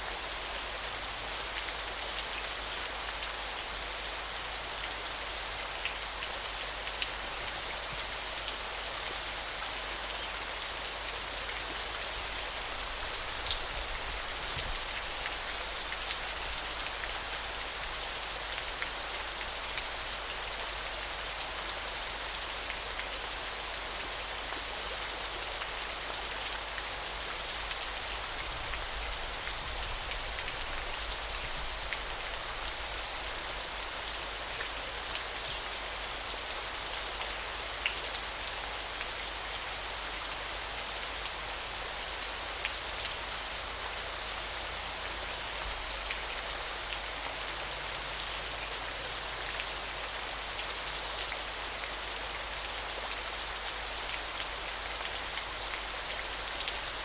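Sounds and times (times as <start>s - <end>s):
flowing water hiss: 0.0s - 57.0s.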